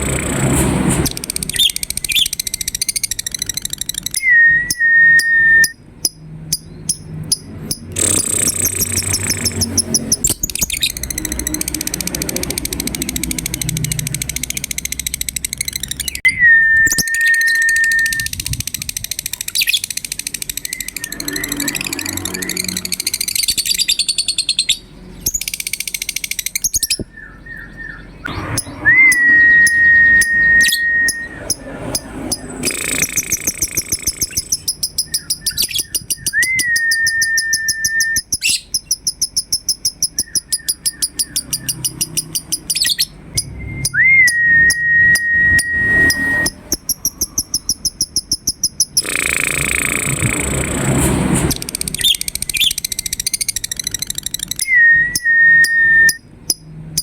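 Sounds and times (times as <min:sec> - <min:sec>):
lovebird chattering calls: 0:01.1 - 0:05.3, 0:06.0 - 0:16.2, 0:16.9 - 0:43.6, 0:44.3 - 0:50.7, 0:51.5 - 0:57.0
drawn-out bird whistle: 0:01.1 - 0:18.4, 0:19.5 - 0:50.3, 0:51.8 - 0:56.6.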